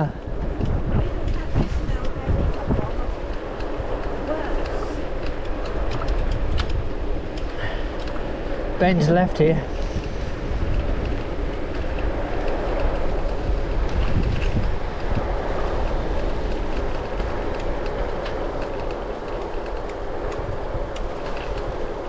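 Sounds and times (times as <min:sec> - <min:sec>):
low rolling rumble: 0:00.0 - 0:22.0
wind rush on microphone: 0:00.0 - 0:22.0
faint rattling ticks: 0:00.6 - 0:22.0.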